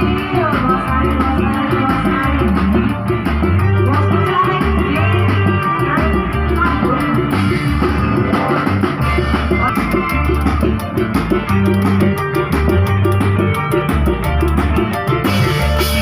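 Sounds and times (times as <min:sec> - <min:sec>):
loud band music: 0:00.0 - 0:16.0.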